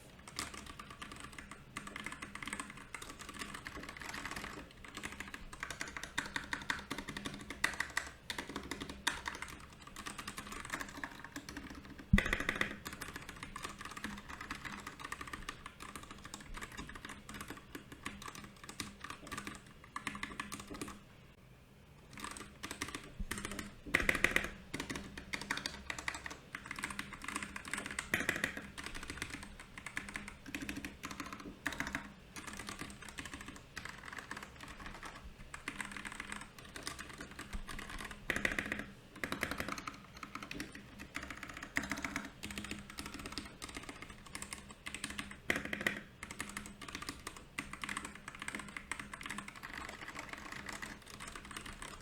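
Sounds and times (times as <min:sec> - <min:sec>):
mechanical keyboard typing: 0:00.0 - 0:21.0, 0:22.1 - 0:52.0.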